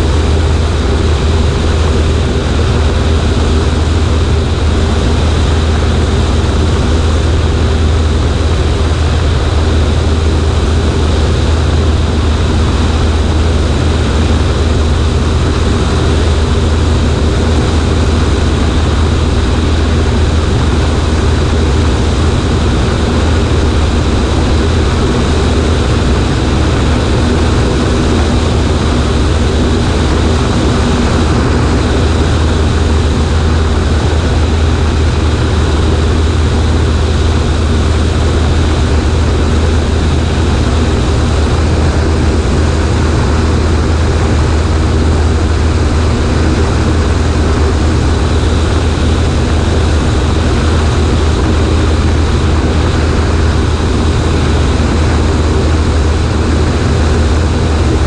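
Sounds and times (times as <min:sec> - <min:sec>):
airflow rushing over wing: 0:00.0 - 0:58.0
plane engine and propeller drone: 0:00.0 - 0:58.0.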